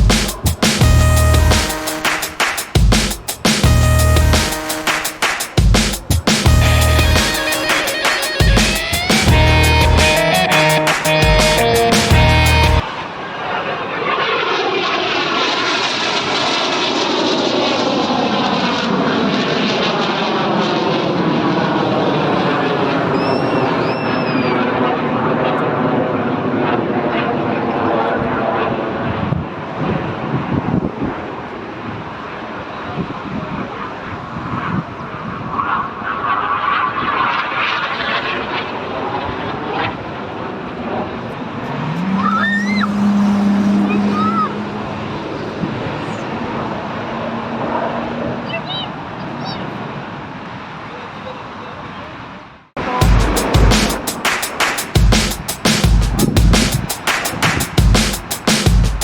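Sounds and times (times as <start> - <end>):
aircraft engine rushing past: 0.0 - 58.5.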